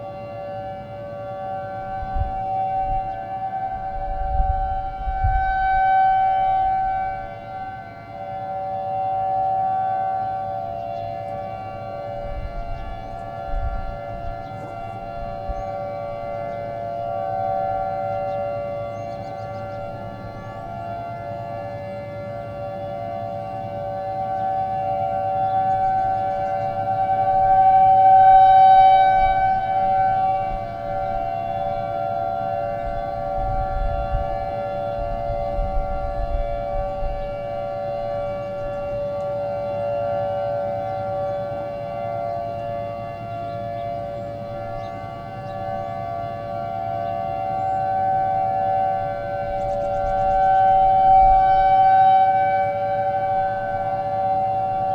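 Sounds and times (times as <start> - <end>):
tornado warning siren: 0.0 - 54.9.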